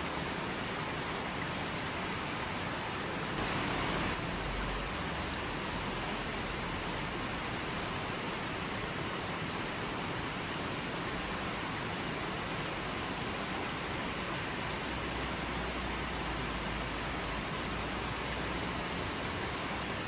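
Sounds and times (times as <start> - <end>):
steady even hiss: 0.0 - 20.0.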